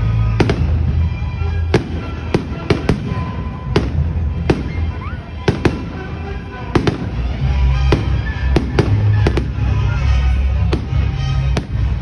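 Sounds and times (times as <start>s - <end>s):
music playing: 0.0s - 12.0s.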